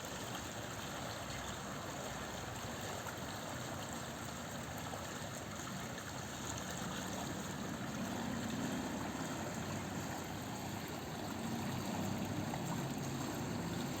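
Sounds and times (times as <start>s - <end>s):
water rushing through channel: 0.0s - 14.0s.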